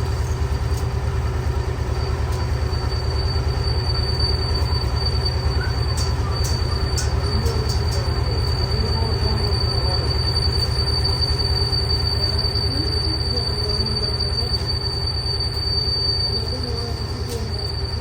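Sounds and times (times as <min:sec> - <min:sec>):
boring machine rumbling: 0:00.0 - 0:18.0.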